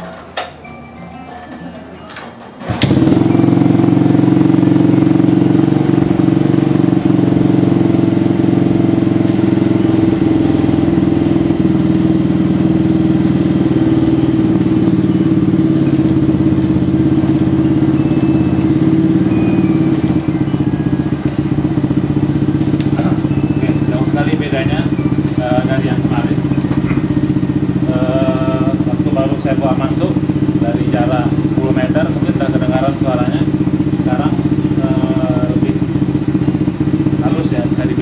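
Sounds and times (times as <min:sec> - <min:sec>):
motorcycle engine running: 0:02.6 - 0:38.0.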